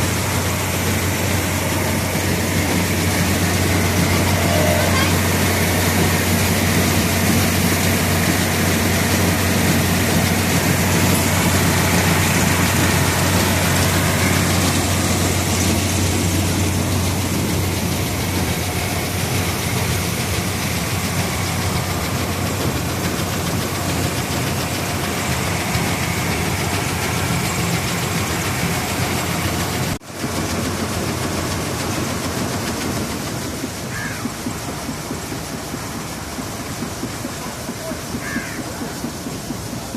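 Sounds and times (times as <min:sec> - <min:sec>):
mechanical rush: 0:00.0 - 0:39.8
combine harvester engine drone: 0:00.0 - 0:39.9.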